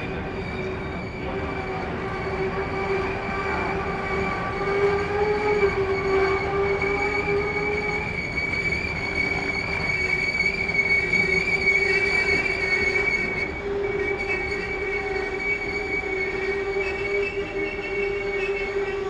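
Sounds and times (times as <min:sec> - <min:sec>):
train rumble: 0:00.0 - 0:19.0
train wheel squeal: 0:00.0 - 0:19.0.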